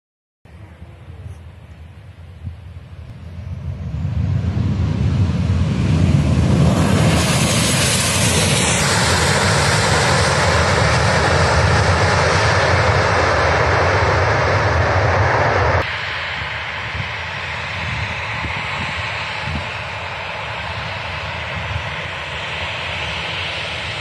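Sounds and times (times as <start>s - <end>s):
jet engine roar: 0.5s - 24.0s.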